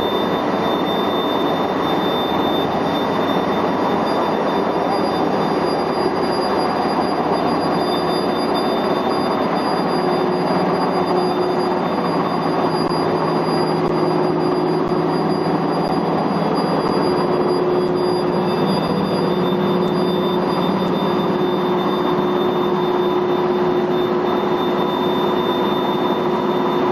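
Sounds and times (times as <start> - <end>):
drilling machine running with whine: 0.0 - 26.9.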